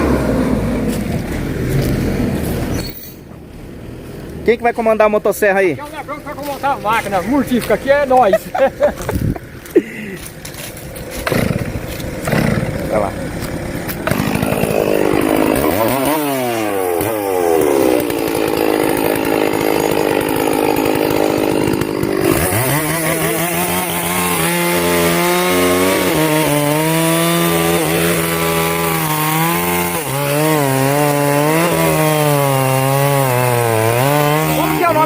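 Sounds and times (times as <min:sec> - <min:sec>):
chainsaw revving and cutting: 0:00.0 - 0:02.8, 0:05.8 - 0:35.0.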